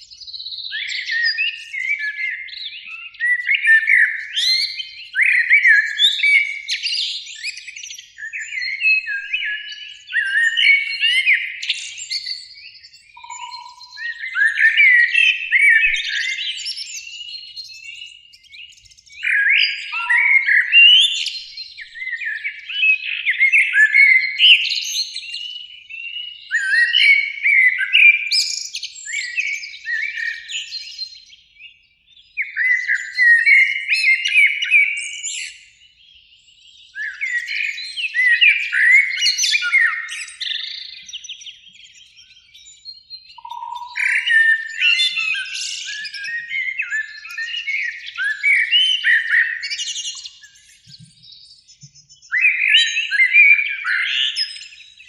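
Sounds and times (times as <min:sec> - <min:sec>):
blackbirds singing: 0:00.0 - 0:55.0.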